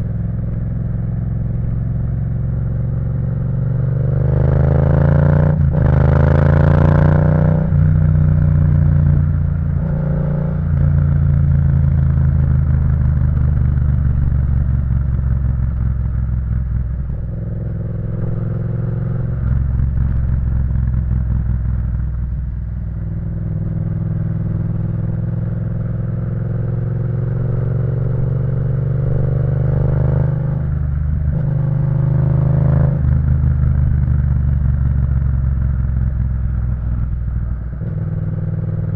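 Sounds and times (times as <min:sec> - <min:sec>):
motorcycle engine revving: 0:02.4 - 0:22.2, 0:22.8 - 0:38.9.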